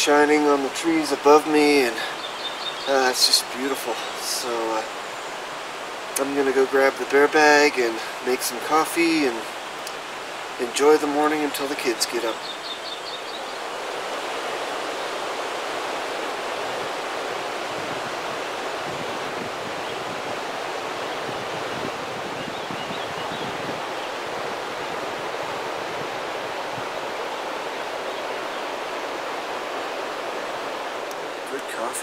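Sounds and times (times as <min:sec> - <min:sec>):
rushing outdoor noise: 0:00.0 - 0:32.0.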